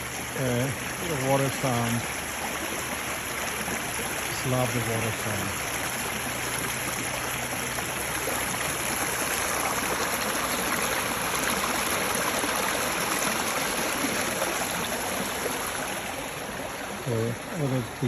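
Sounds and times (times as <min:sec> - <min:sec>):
creek rushing over rocks: 0:00.0 - 0:18.0.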